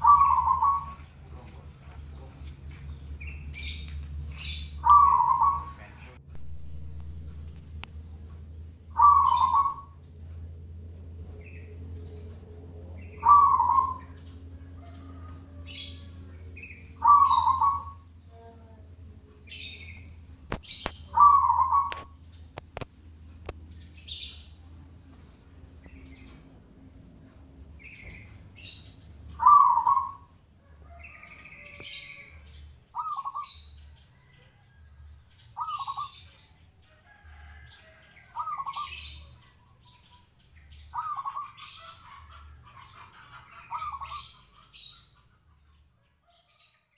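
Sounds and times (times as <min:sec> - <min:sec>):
doves cooing: 0:00.0 - 0:46.4.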